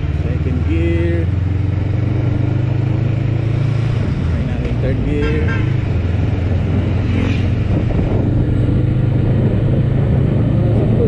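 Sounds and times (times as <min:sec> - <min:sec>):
motorcycle engine drone: 0:00.0 - 0:11.0.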